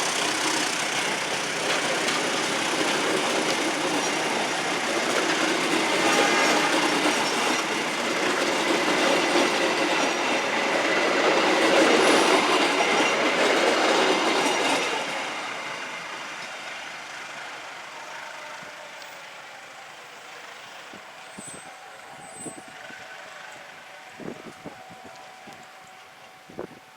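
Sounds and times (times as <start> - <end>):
train wheels on rails: 0.0 - 26.9.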